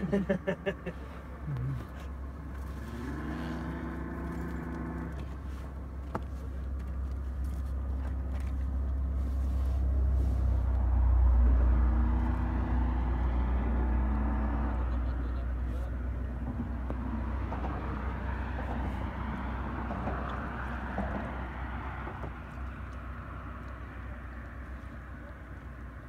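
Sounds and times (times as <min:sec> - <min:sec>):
motorboat engine rumbling: 0:00.0 - 0:26.0.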